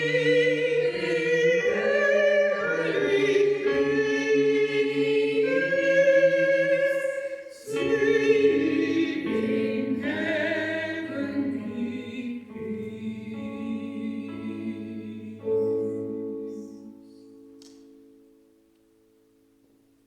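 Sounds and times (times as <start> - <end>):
choir singing sustained chords: 0.0 - 17.6.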